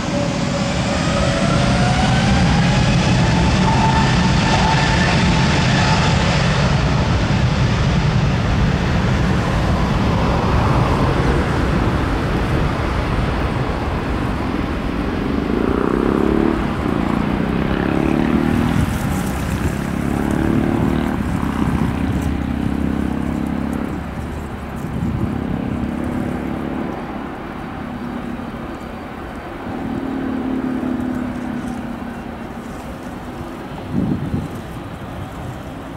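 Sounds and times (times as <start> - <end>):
jet engine roar: 0.0 - 35.9.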